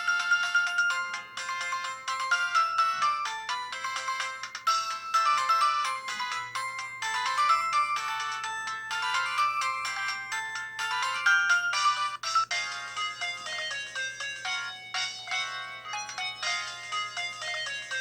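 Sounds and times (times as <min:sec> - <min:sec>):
polyphonic ringtone melody: 0:00.0 - 0:18.0.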